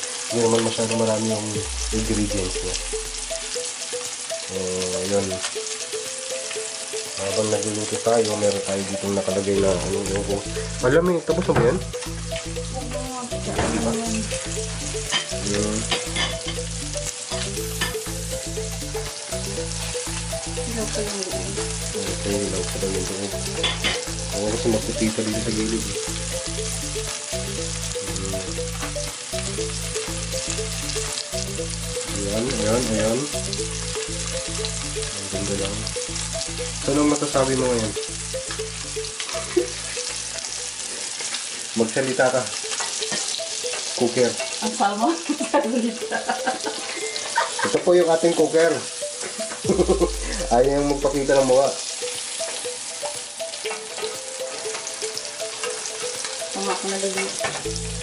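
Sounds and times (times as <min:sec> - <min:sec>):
fish sizzling in a pan: 0:00.0 - 0:58.0.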